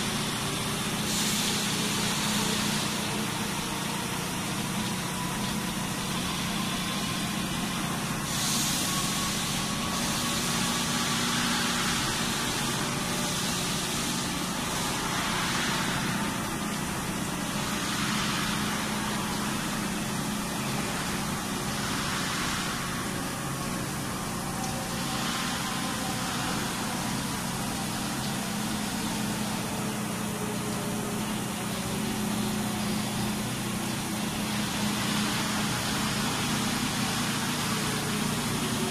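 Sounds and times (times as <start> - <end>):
grinding hiss: 6.5 - 38.9.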